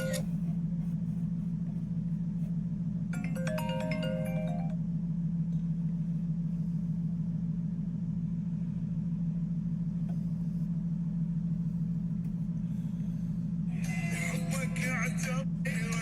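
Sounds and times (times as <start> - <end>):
steady low machine hum: 0.0 - 16.0.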